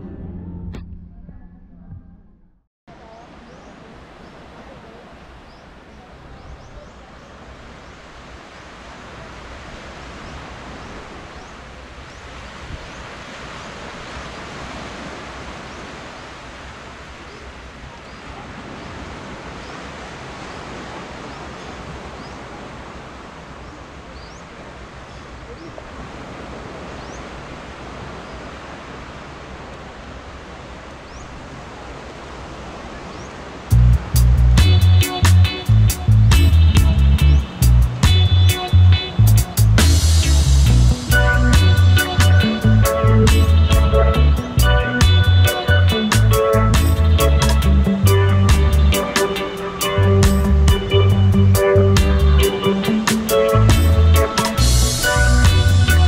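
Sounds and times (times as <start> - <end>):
surf washing on beach: 2.9 - 56.0
wind on microphone: 3.3 - 56.0.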